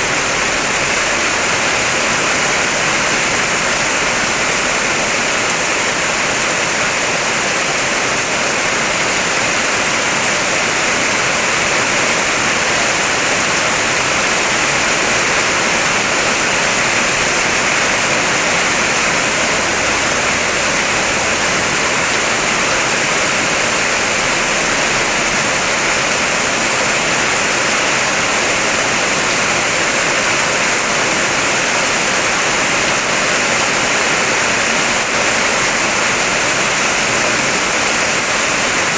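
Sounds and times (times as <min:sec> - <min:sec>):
heavy rain on a car: 0:00.1 - 0:38.9.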